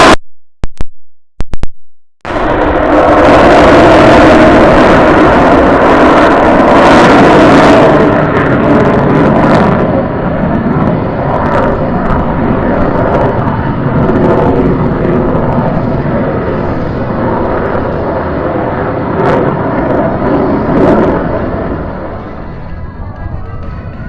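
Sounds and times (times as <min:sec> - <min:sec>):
jet engine roar overhead: 0:02.3 - 0:24.0
low rumble of aircraft: 0:02.3 - 0:24.0.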